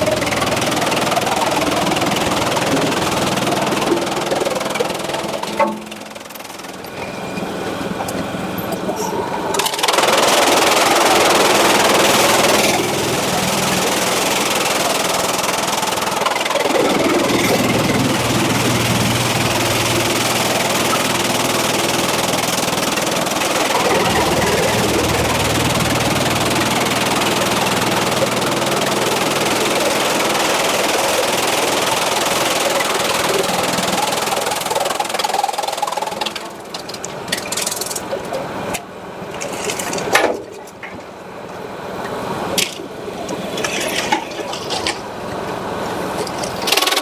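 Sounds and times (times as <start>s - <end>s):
sawmill machinery running: 0.0s - 47.0s.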